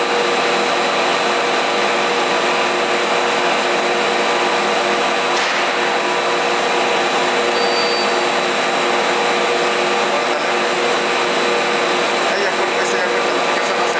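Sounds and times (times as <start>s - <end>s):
machine hums and whines: 0.0s - 13.9s.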